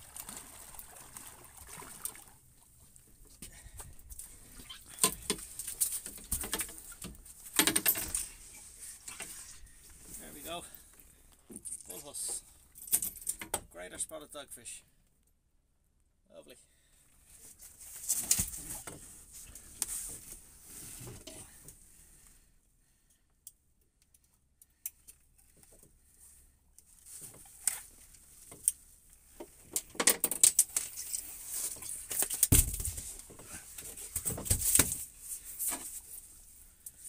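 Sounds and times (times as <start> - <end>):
rustling and scraping in a boat: 0.0 - 14.1, 17.0 - 22.6, 25.0 - 37.0.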